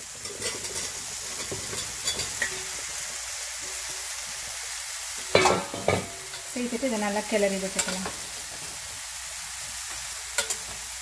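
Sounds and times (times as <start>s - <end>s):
food sizzling in pressure cooker: 0.0s - 11.0s.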